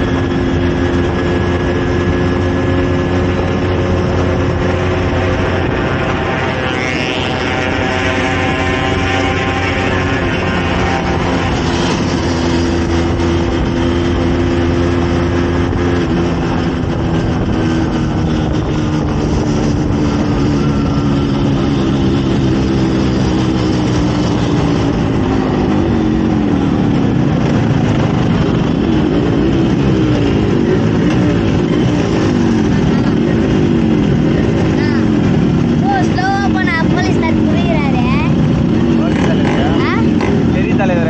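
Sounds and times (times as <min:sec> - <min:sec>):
two-stroke motorcycle engine: 0:00.0 - 0:41.0
wind and road noise: 0:00.0 - 0:41.0.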